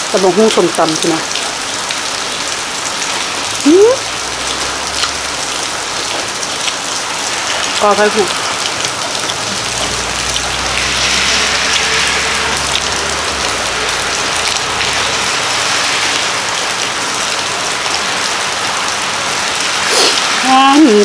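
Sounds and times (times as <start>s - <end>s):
rain falling on a roof: 0.0s - 21.0s.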